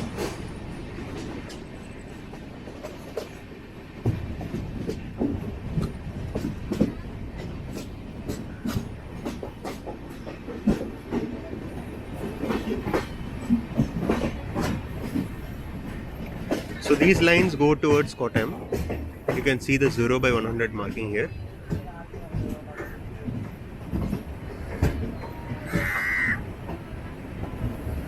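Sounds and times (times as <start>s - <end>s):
train coach rumbling on track: 0.0s - 28.0s
wheels clicking over rail joints: 0.0s - 28.0s.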